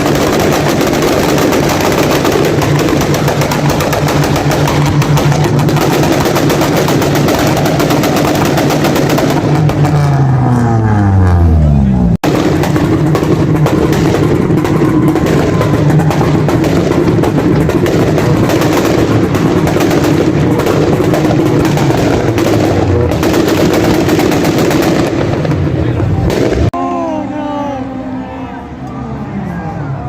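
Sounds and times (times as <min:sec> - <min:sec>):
exhaust popping and crackling: 0:00.0 - 0:26.8.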